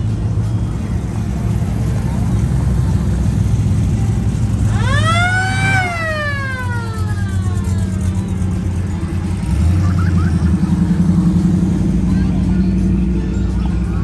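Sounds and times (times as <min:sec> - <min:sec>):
car engines idling: 0:00.0 - 0:14.0.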